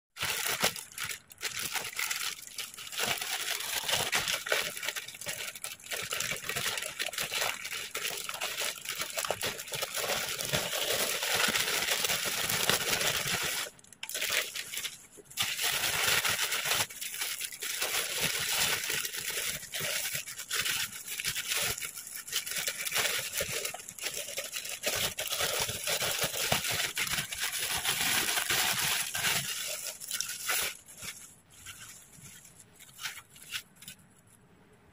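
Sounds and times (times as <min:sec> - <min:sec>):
plastic bag crinkling: 0:00.2 - 0:34.3.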